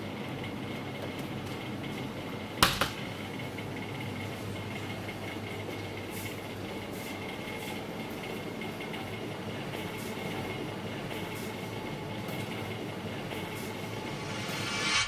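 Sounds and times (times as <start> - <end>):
refrigeration hum with high tone: 0.0 - 15.0.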